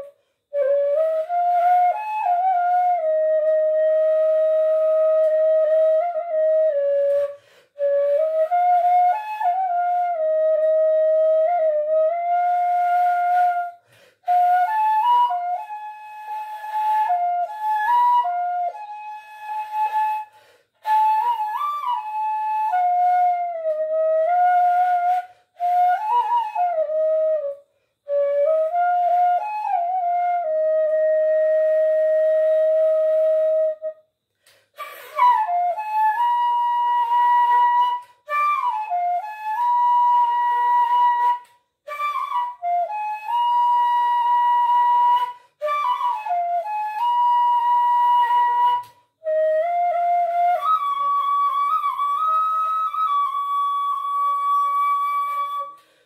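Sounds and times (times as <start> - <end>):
bamboo flute melody: 0.0 - 56.0.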